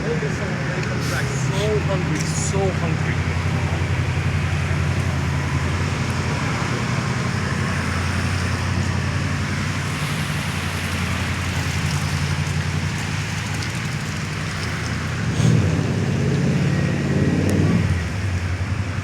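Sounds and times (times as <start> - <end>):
traffic hiss: 0.0 - 17.2
engine rumble: 0.0 - 19.0.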